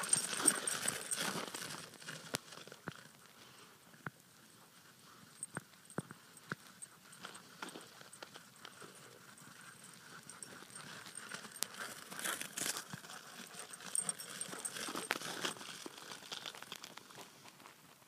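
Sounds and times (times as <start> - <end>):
dog paws crunching snow: 0.0 - 3.6, 6.9 - 18.0.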